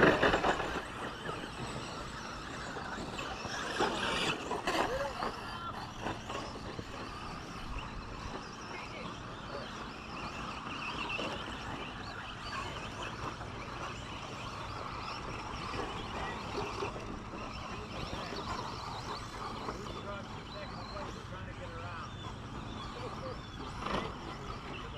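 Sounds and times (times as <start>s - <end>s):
toy trucks racing: 0.0s - 24.9s.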